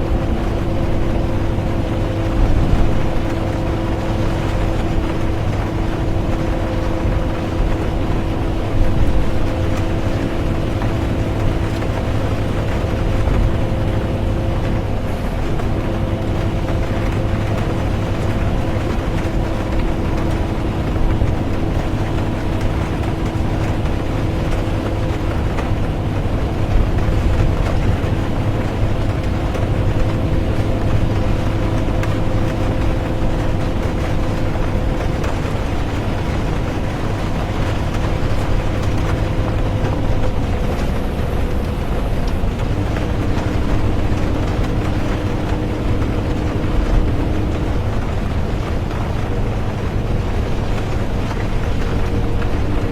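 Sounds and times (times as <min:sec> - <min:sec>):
bus engine and road drone: 0:00.0 - 0:52.9
rain pattering on bus: 0:00.0 - 0:52.9.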